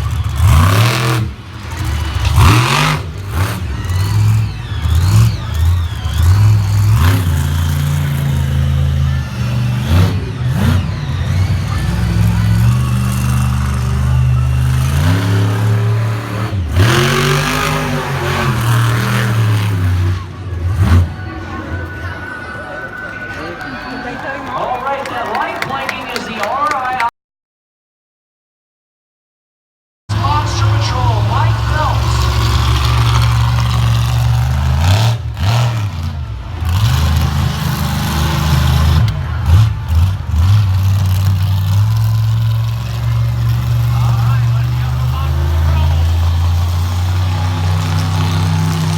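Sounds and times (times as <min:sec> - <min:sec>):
truck engine revving: 0:00.0 - 0:24.5, 0:30.1 - 0:48.9.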